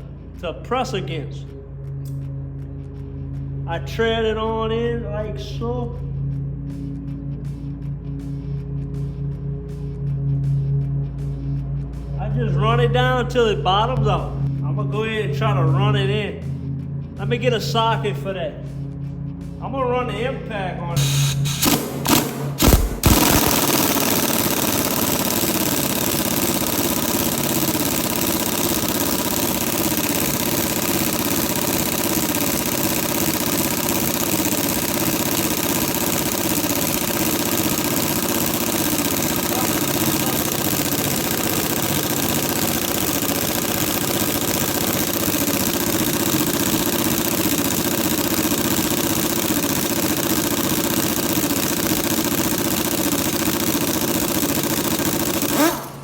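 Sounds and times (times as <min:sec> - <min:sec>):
small engine droning: 0:00.0 - 0:56.0.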